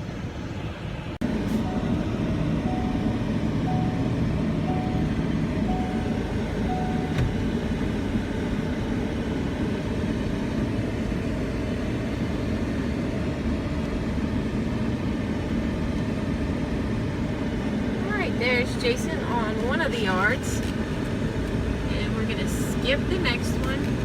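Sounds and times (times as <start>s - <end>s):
road noise: 0.0s - 24.0s
truck engine: 0.0s - 24.0s.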